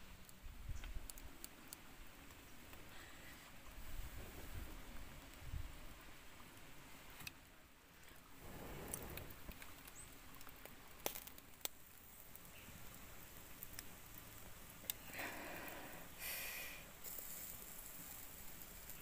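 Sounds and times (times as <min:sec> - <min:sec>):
faint fire crackling: 0:00.0 - 0:19.0.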